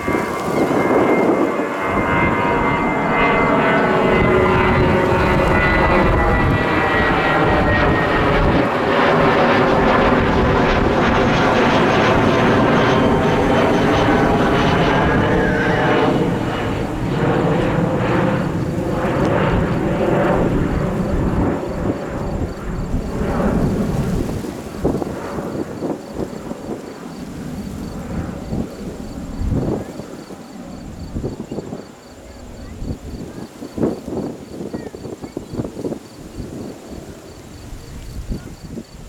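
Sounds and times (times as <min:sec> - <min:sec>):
jet airliner engines whining: 0:00.0 - 0:39.0
low crackling jet rumble: 0:00.0 - 0:39.0.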